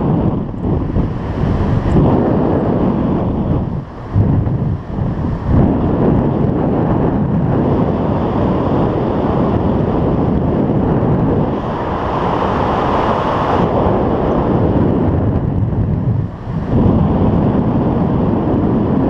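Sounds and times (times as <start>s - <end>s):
wind roaring over microphone: 0.0s - 19.0s.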